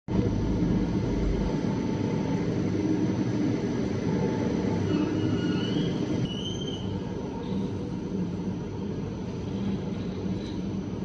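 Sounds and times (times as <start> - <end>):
faint high whines: 0.1 - 11.0
machinery rumbling: 0.1 - 11.0.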